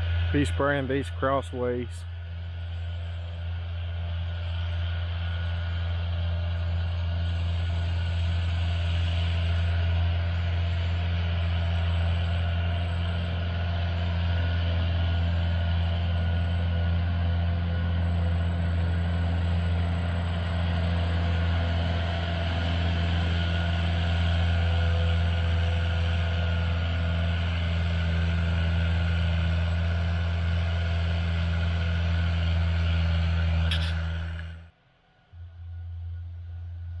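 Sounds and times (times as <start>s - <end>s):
heavy vehicle engine droning: 0.0s - 37.0s.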